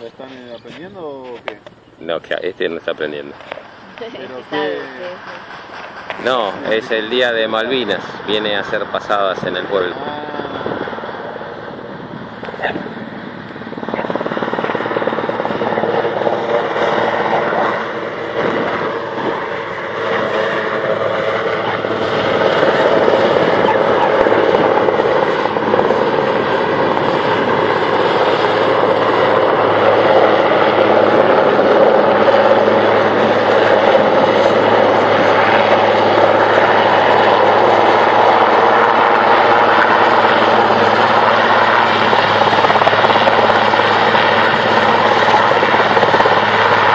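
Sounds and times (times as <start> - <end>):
helicopter rotor and turbine noise: 0.0 - 46.9
high turbine whine: 0.0 - 46.9.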